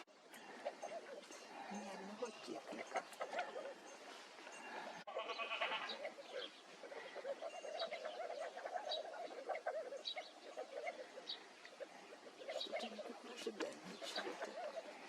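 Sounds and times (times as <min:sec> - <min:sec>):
birds chattering: 0:00.0 - 0:15.0.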